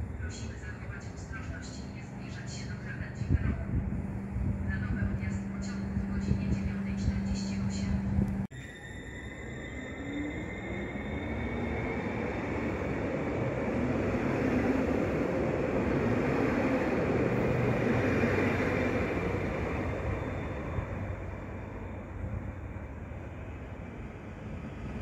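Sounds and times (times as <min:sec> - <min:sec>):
electric train whine: 0:00.0 - 0:25.0.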